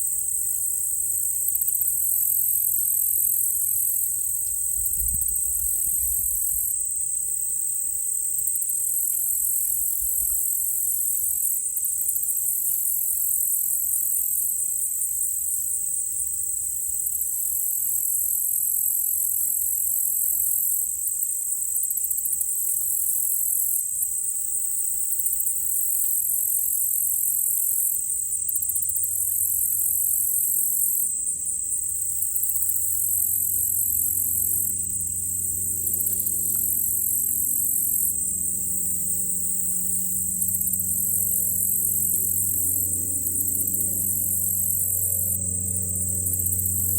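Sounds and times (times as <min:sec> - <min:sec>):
distant propeller plane drone: 0:00.0 - 0:46.9
insects trilling: 0:00.0 - 0:46.9.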